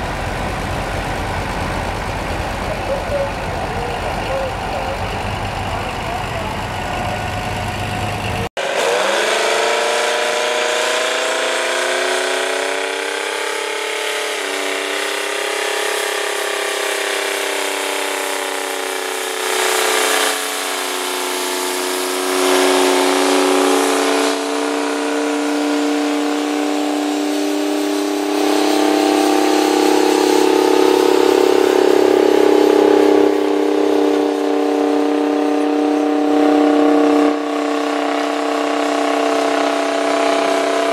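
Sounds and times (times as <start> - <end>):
another tractor engine: 0.0 - 40.9
tractor engine working under load: 0.0 - 40.9.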